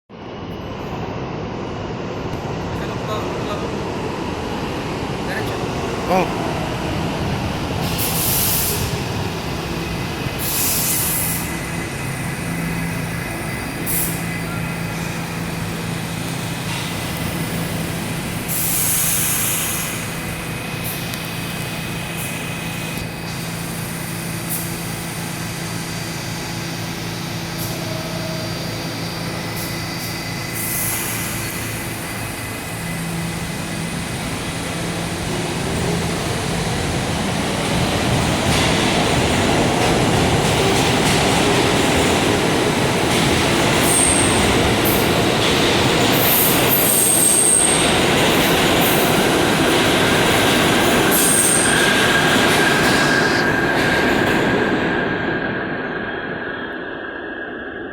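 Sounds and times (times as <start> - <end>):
subway train rumble: 0.1 - 57.9.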